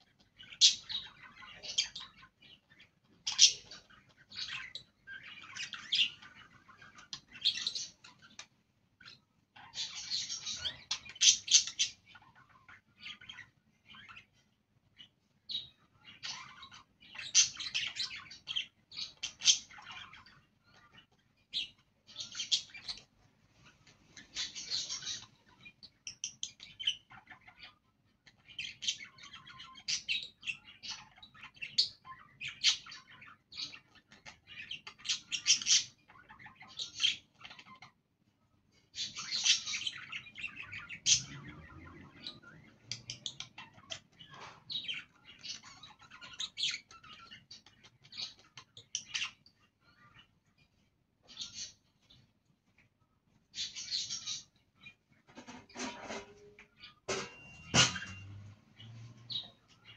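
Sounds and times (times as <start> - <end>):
budgerigars chirping: 0.0 - 38.0, 38.7 - 52.3, 53.4 - 55.9, 56.8 - 59.9.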